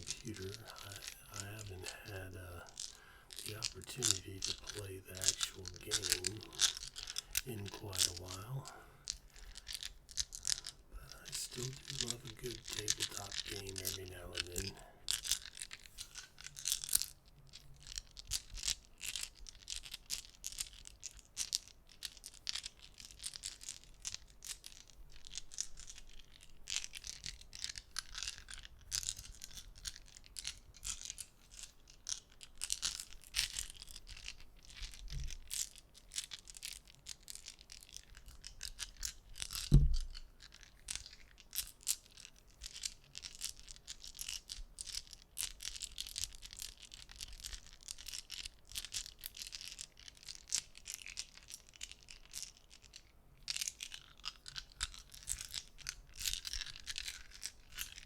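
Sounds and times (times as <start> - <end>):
dice clicking and rattling: 0.0 - 58.0.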